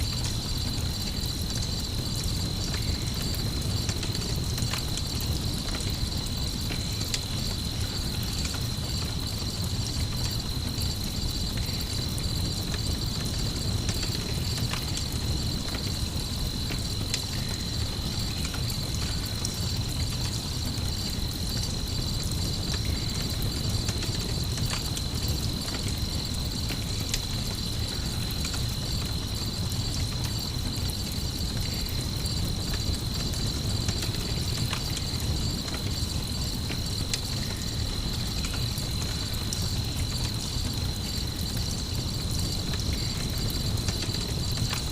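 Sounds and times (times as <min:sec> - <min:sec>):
campfire crackling: 0:00.0 - 0:44.9
crickets chirping: 0:00.0 - 0:44.9.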